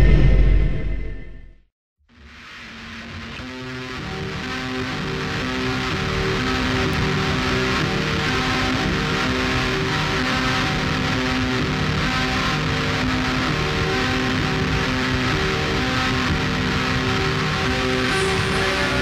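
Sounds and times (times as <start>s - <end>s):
distorted dark ambient rock: 0.0s - 19.0s.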